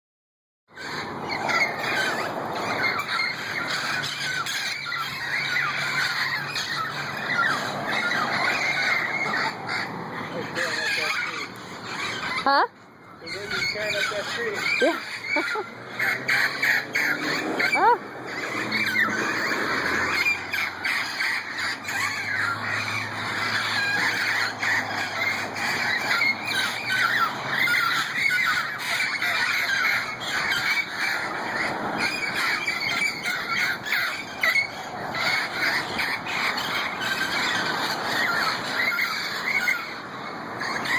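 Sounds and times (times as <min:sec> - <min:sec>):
parrots squawking and screeching: 0:00.8 - 0:40.9.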